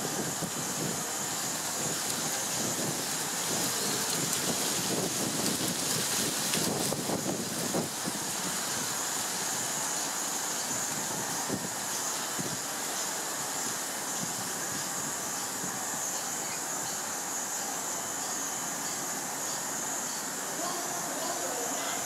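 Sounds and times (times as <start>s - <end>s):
constant high-pitched hiss: 0.0s - 22.0s.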